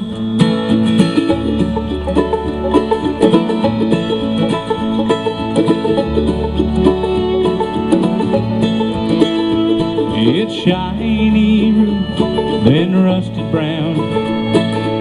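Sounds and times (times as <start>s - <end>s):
plucked string picking: 0.0s - 15.0s
steady bass line: 0.0s - 15.0s.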